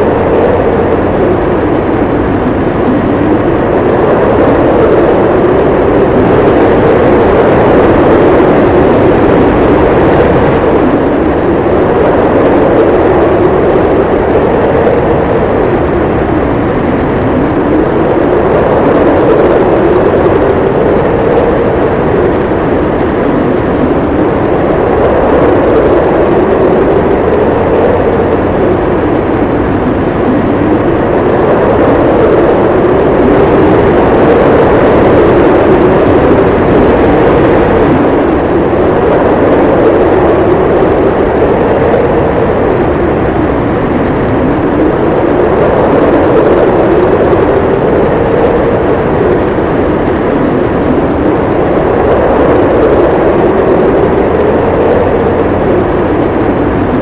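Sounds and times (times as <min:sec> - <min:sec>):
strong wind howling: 0:00.0 - 0:57.0.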